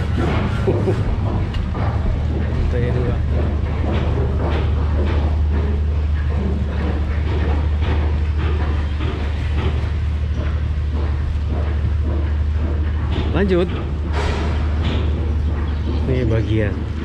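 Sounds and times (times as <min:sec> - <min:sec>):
knocks and clatter: 0:00.0 - 0:17.0
machinery hum: 0:00.0 - 0:17.0.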